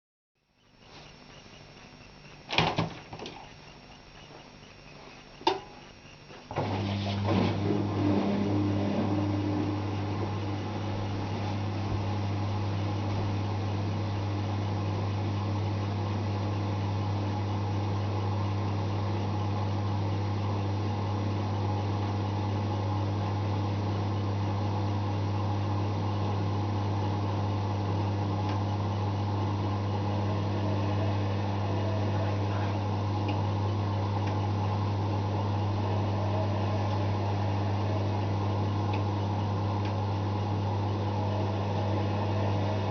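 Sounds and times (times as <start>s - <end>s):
washing machine spinning: 0.5s - 42.9s.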